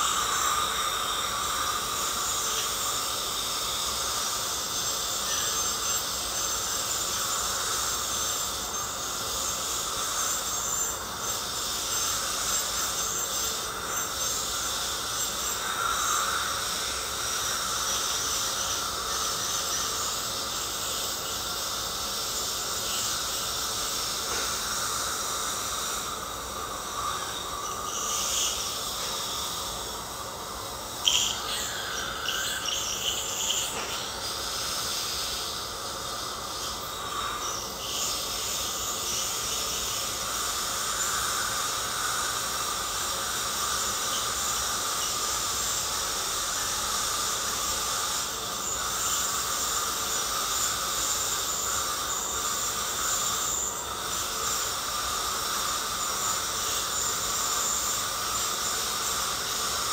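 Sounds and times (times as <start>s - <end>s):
dental scaler whining: 0.0s - 59.9s.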